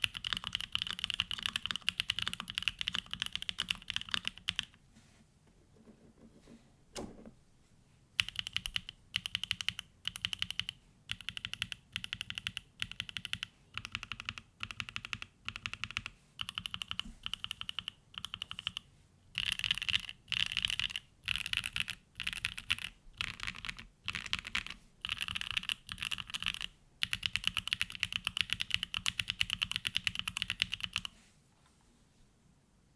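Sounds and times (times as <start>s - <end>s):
mechanical keyboard typing: 0.0s - 4.8s, 8.2s - 18.8s, 19.4s - 31.1s.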